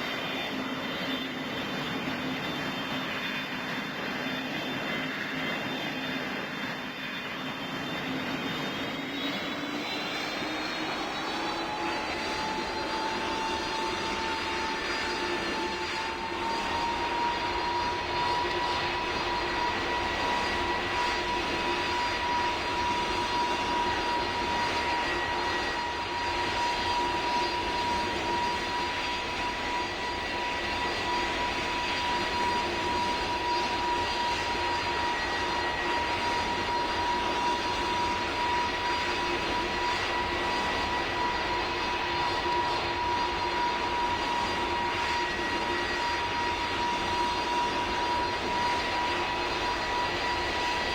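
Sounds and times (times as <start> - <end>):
aircraft engine roar: 0.0 - 50.9.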